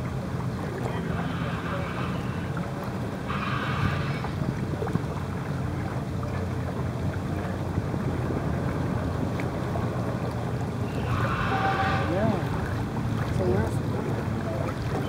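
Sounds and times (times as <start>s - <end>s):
boat engine drone: 0.0s - 15.0s
wind and water rushing: 0.0s - 15.0s.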